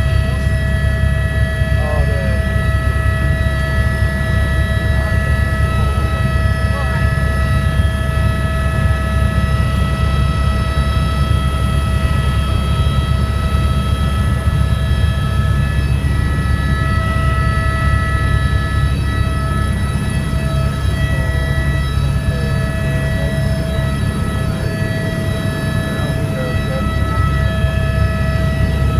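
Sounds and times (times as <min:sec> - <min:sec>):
helicopter engine and rotor rumble: 0:00.0 - 0:28.9
high whining tones: 0:00.0 - 0:28.9.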